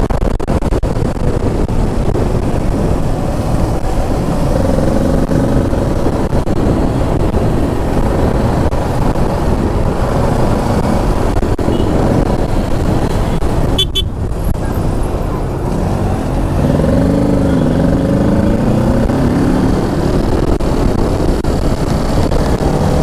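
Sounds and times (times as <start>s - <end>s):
road rumble: 0.0s - 23.0s
wind noise: 0.0s - 23.0s.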